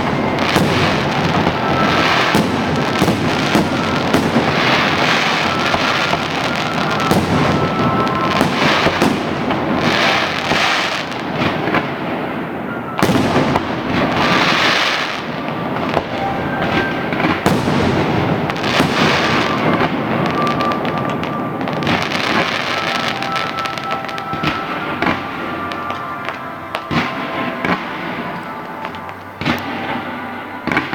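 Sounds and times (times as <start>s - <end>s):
fireworks bursts and crackling: 0.0s - 30.9s
sharp fireworks bangs: 0.0s - 30.9s.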